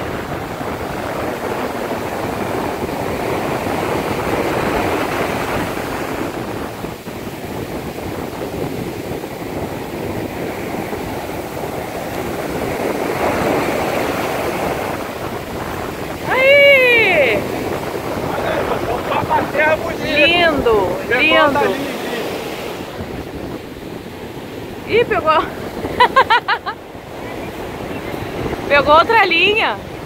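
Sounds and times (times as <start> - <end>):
waves breaking on beach: 0.0 - 30.0.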